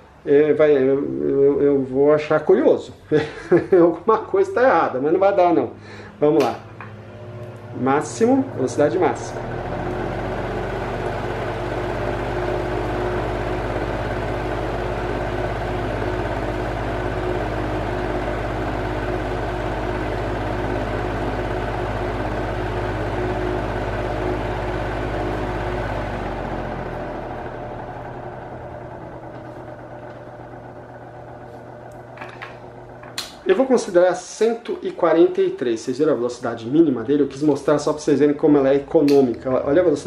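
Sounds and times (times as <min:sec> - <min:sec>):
fan motor hum and air rush: 0:00.0 - 0:40.0.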